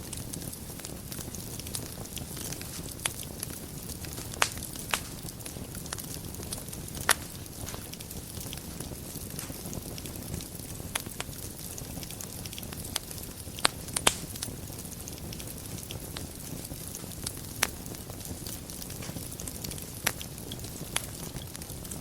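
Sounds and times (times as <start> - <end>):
fire crackles and pops: 0.0 - 22.0
low rumble of burning wood: 0.0 - 22.0.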